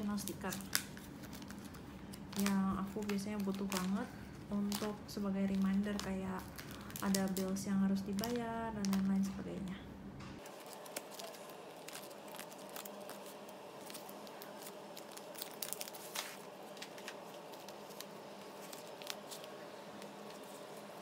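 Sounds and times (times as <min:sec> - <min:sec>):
plastic sleeves crinkling: 0:00.0 - 0:09.7, 0:10.4 - 0:21.0.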